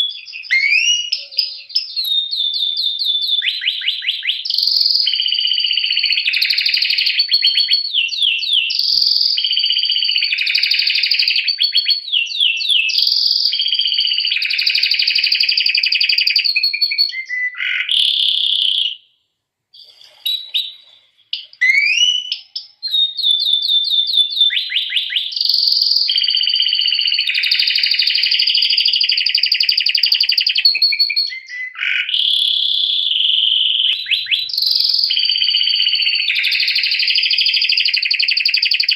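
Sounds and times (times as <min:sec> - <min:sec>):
canary singing trills: 0:00.0 - 0:19.1, 0:19.8 - 0:38.9.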